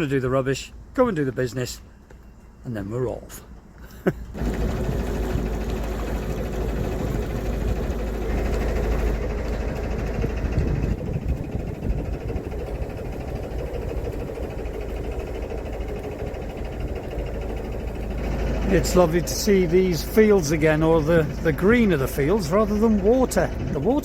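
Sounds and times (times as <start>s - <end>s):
boat diesel engine droning: 1.8s - 24.0s.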